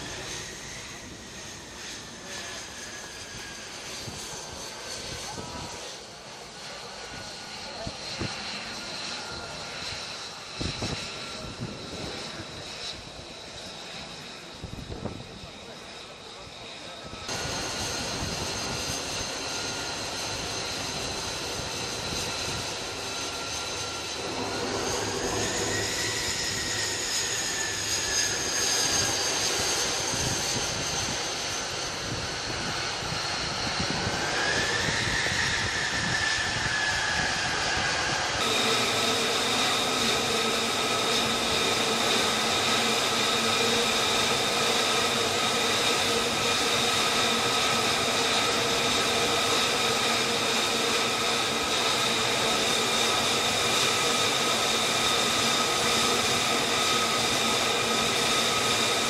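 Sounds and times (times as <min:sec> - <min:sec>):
jet engine whining: 0:00.0 - 0:59.0.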